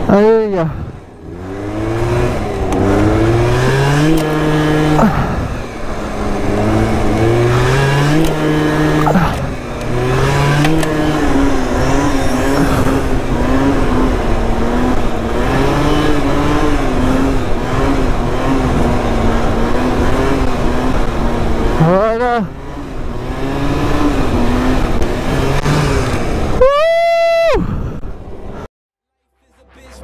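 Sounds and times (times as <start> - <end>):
scooter engine at high revs: 0.0 - 28.7.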